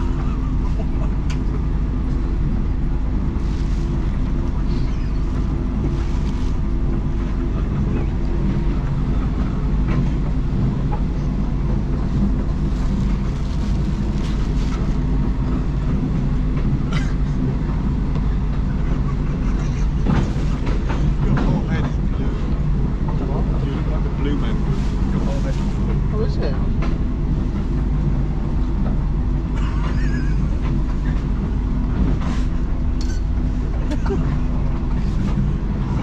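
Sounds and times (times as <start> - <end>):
train rumbling from inside carriage: 0.0 - 36.0.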